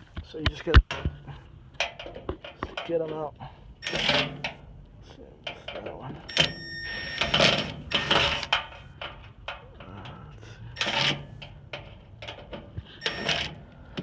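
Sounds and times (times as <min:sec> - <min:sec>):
metal panel clattering and scraping: 0:00.6 - 0:04.7, 0:05.5 - 0:10.2, 0:10.8 - 0:14.0.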